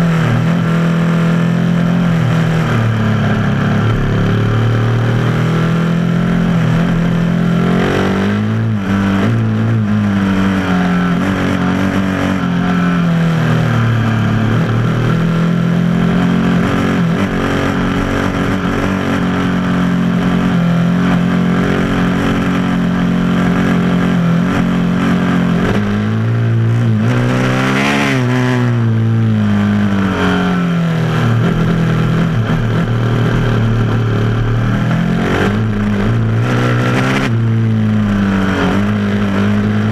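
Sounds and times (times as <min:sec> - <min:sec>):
motorcycle engine revving: 0:00.0 - 0:39.9
wind and tyre noise: 0:00.0 - 0:39.9.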